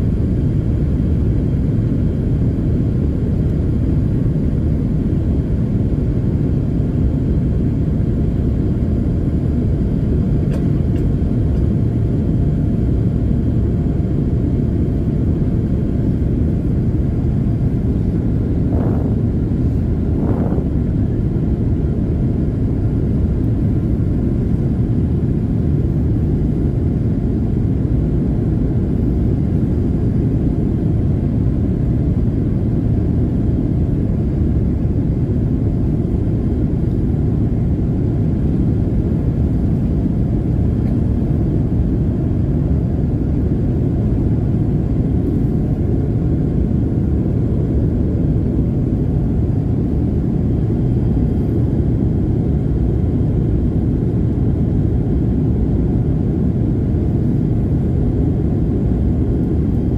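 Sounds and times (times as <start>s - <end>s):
airplane cabin roar: 0.0s - 59.9s.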